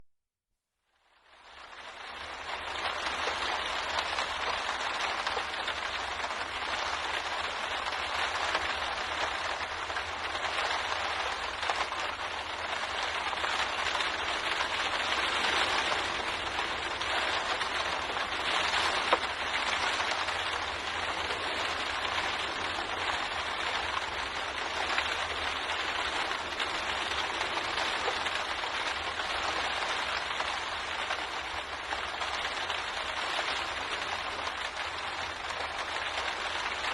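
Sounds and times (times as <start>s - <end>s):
rain pattering on a window: 0.8s - 36.9s.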